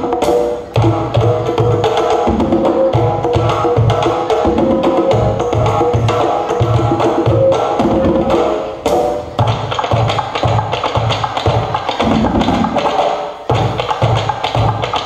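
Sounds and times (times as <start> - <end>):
dance music with quick beat: 0.0 - 15.0.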